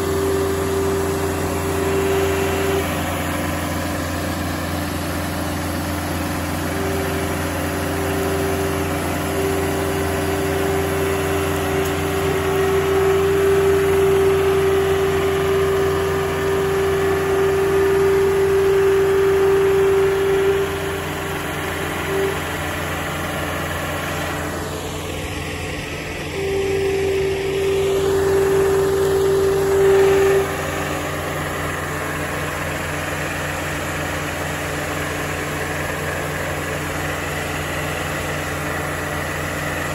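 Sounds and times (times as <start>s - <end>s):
high-pitched whine: 0.0s - 39.9s
machine engine running: 0.0s - 39.9s.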